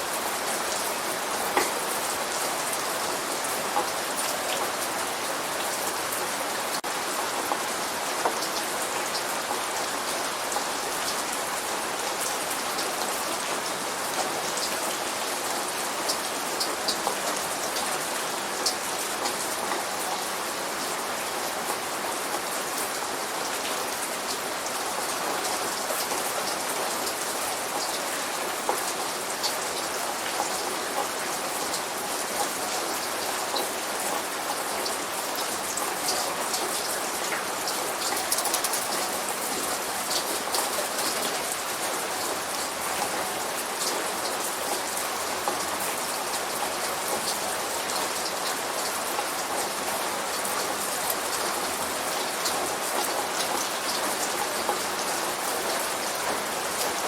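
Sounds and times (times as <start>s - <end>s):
light rain pattering: 0.0s - 57.0s.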